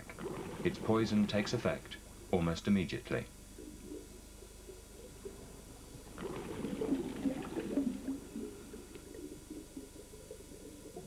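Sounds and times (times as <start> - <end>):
watery gurgling and bubbling: 0.0 - 11.0.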